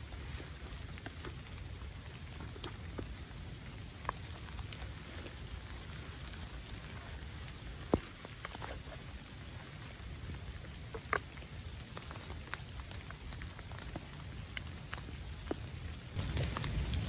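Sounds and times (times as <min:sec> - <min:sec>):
light rain falling: 0:00.0 - 0:17.0.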